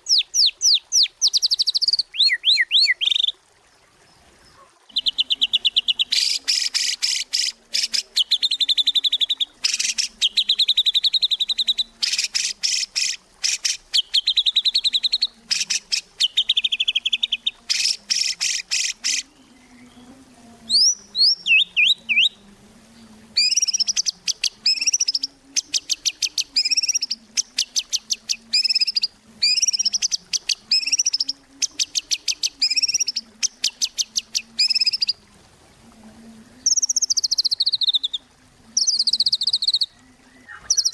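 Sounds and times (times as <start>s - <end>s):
bird singing buzzy notes: 4.0s - 35.2s, 36.6s - 40.9s.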